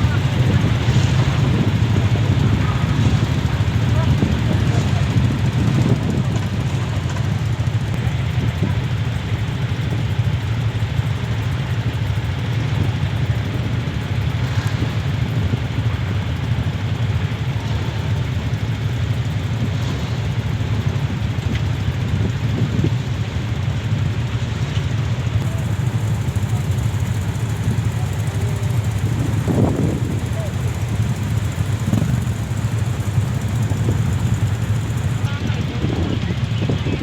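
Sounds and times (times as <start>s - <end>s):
ferry engines rumbling: 0.0s - 37.0s.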